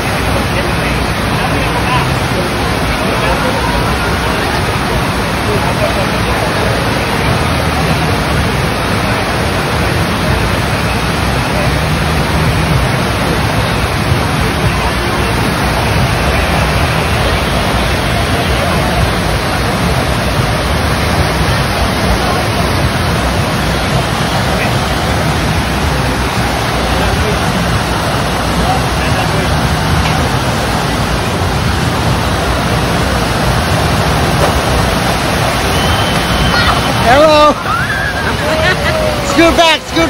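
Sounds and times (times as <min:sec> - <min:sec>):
loud rush of water: 0:00.0 - 0:40.0.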